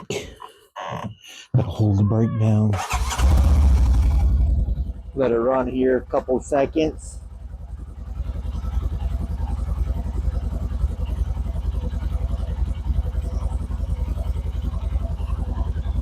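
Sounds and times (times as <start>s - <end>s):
engine idling: 2.5s - 16.0s.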